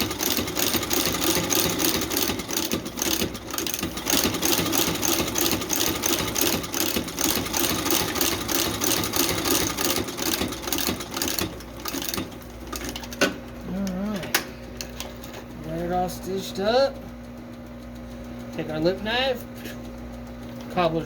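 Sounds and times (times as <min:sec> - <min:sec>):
stitching machine needle cycling: 0:00.0 - 0:17.0
motor hum: 0:00.0 - 0:21.0.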